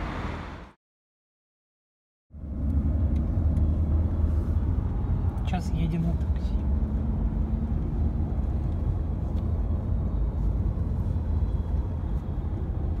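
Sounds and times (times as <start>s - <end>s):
car cabin road rumble: 2.4s - 13.0s.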